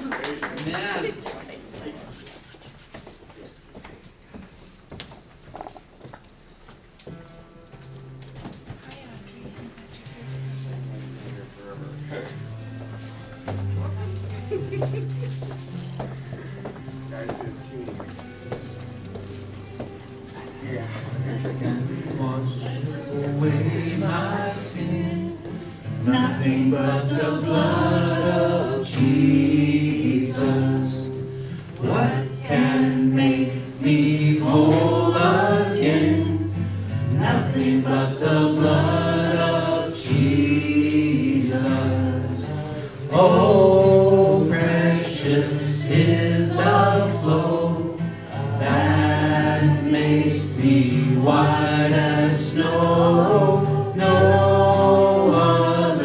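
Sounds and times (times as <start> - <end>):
acoustic guitar: 0.0 - 56.0.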